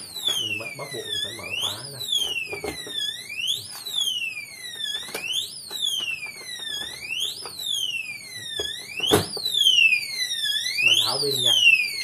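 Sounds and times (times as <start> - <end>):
sweeping siren alarm: 0.0 - 12.0.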